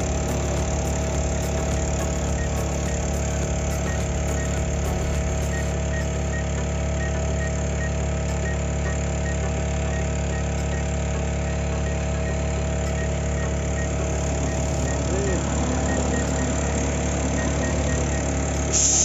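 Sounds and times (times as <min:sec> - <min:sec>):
drone rotors humming: 0:00.0 - 0:19.0.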